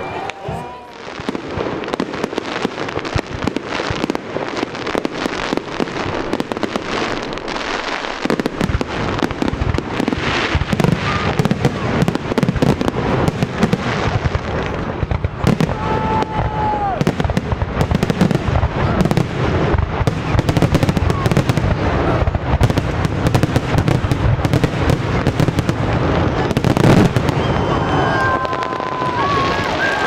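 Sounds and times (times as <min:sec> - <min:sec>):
fireworks crackling: 0:00.0 - 0:30.0
deep firework booms: 0:00.5 - 0:30.0.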